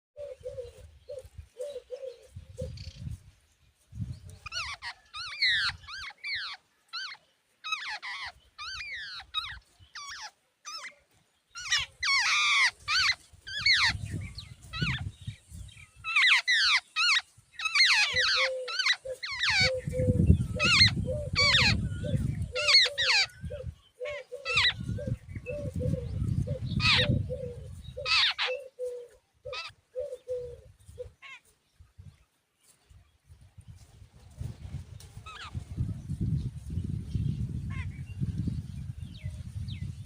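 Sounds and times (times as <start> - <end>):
birds making harsh rapid calls: 4.2 - 31.5, 34.5 - 40.0.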